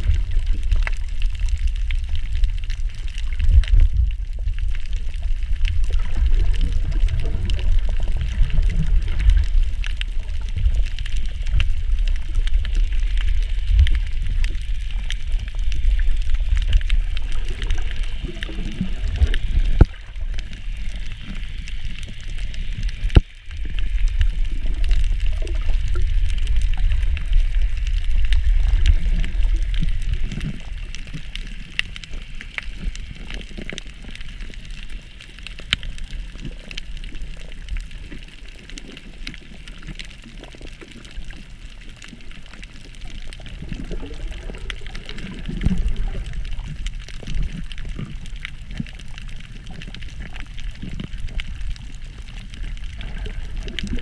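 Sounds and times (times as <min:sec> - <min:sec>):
underwater rush of water: 0:00.0 - 0:54.0.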